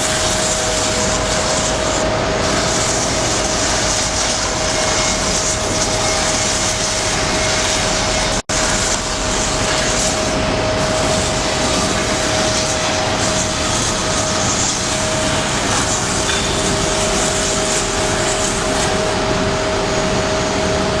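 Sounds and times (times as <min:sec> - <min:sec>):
grinding machine whine: 0:00.0 - 0:21.0
lower whine: 0:00.0 - 0:21.0.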